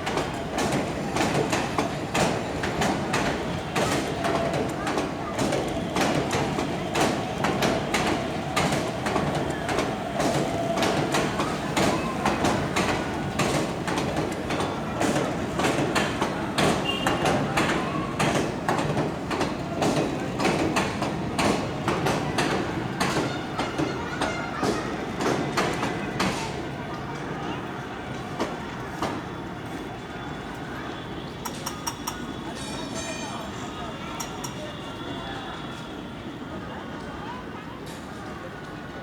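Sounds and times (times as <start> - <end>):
train coaches rattling on track: 0.0 - 39.0.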